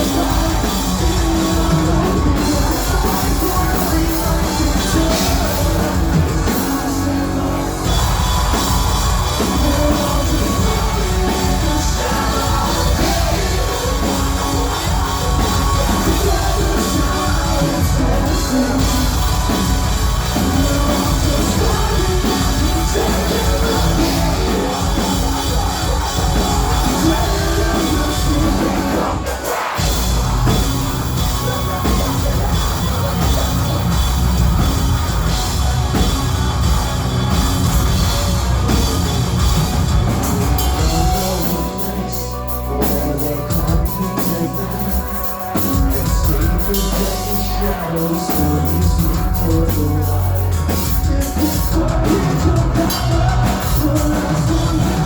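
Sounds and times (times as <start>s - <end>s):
person singing: 0.0s - 34.0s, 40.2s - 55.0s
heavy rock band playing: 0.0s - 55.0s.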